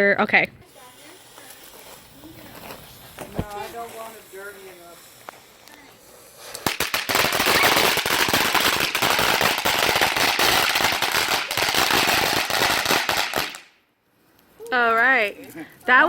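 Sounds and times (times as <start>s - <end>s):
firework crackling: 0.4s - 13.8s.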